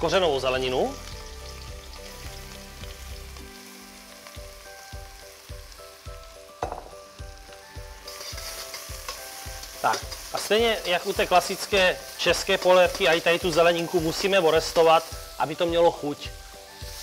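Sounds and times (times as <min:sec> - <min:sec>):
soft music with low beat: 0:00.0 - 0:17.0
vegetables sizzling in oil: 0:00.0 - 0:17.0.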